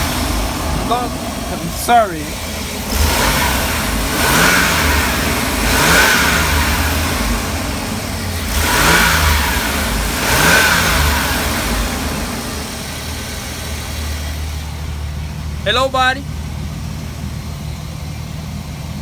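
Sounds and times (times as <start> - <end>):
van engine revving: 0.0 - 19.0.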